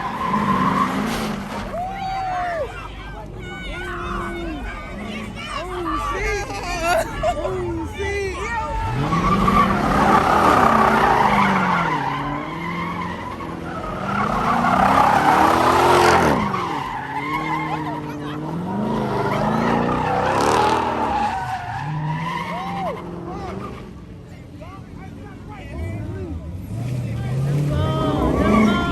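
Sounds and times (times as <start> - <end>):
tyres squealing: 0.0 - 24.0
car engine revving: 0.0 - 28.9.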